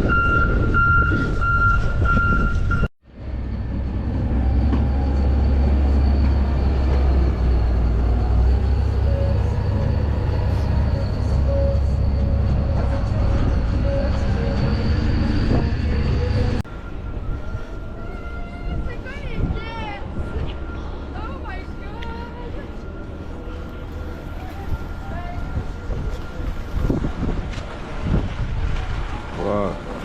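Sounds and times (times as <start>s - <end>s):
city street traffic: 0.0s - 30.0s
heavy vehicle engine rumbling: 0.0s - 30.0s.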